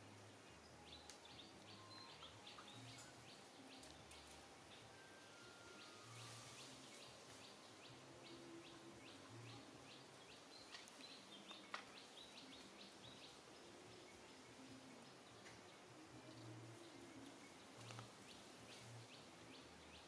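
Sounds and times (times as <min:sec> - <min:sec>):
outdoor ambience: 0:00.0 - 0:20.0.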